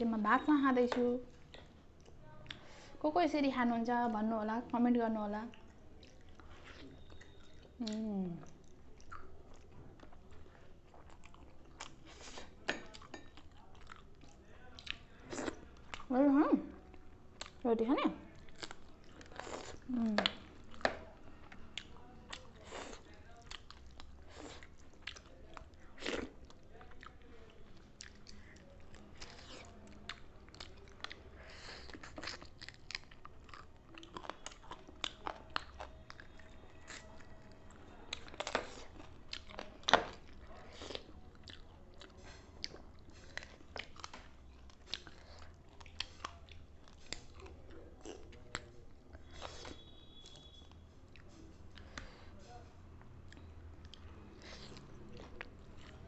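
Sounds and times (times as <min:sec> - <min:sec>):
chewing and biting food: 0:05.5 - 0:16.1, 0:18.3 - 0:52.3, 0:53.0 - 0:56.0.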